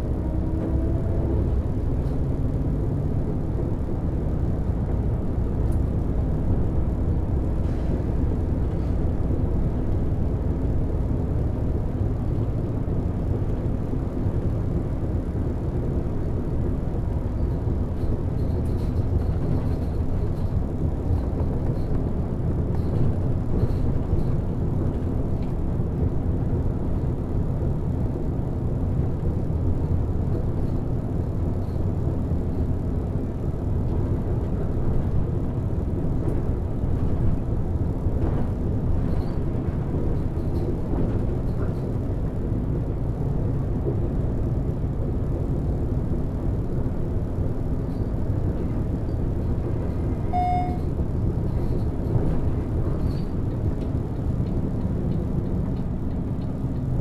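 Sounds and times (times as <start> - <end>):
bus diesel engine running: 0.0 - 57.0
road noise: 0.0 - 57.0.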